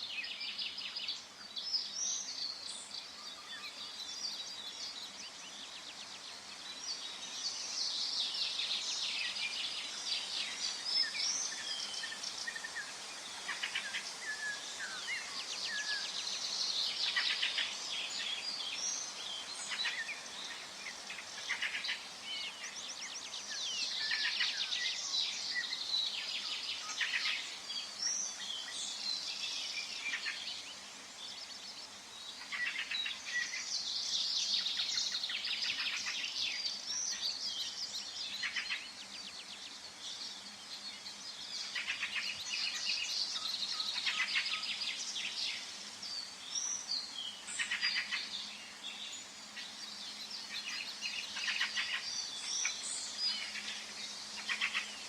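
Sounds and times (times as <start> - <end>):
faint hiss: 0.0 - 55.0
songbirds trilling and chirping: 0.0 - 55.0.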